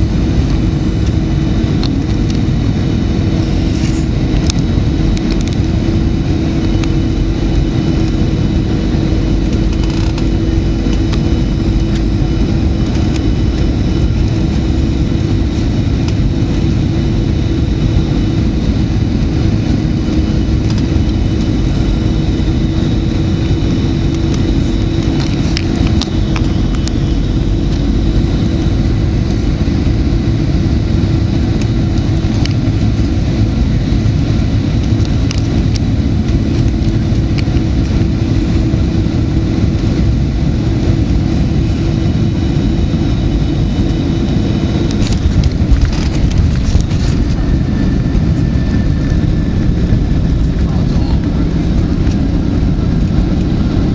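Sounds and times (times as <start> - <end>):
jet engine cabin hum: 0.0 - 53.9.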